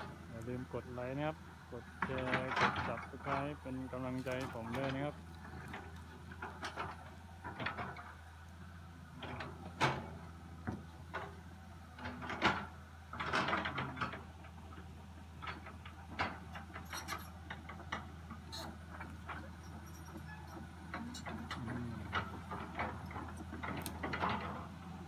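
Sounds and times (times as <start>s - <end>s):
excavator clanks and knocks: 0.0s - 25.0s
excavator engine humming: 0.0s - 25.0s.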